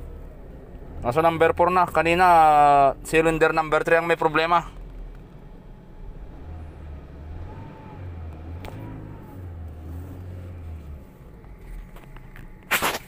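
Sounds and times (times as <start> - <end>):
car engine misfiring: 0.0 - 13.0.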